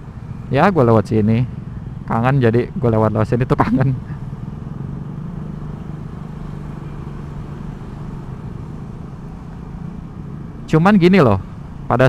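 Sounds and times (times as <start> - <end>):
scooter engine humming: 0.0 - 0.6, 1.2 - 2.1, 2.8 - 11.9
wind and road noise: 0.0 - 12.0.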